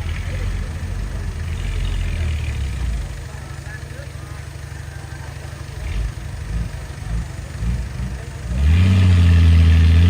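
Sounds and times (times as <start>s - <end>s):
diesel engine rumbling and revving: 0.0s - 10.0s.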